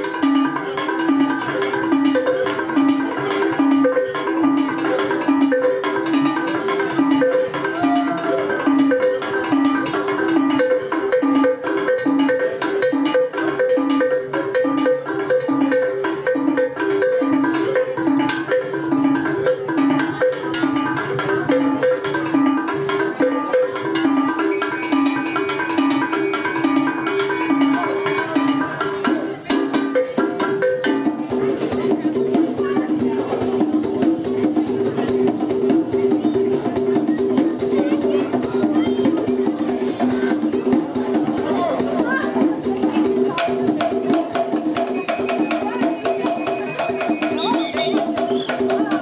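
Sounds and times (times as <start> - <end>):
tuned percussion melody: 0.0 - 49.0.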